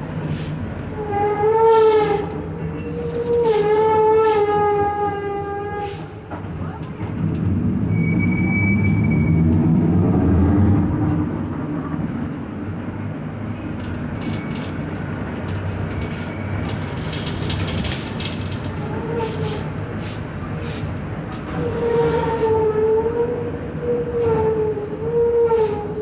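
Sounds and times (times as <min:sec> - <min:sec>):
bus diesel engine pulling: 0:00.0 - 0:26.0.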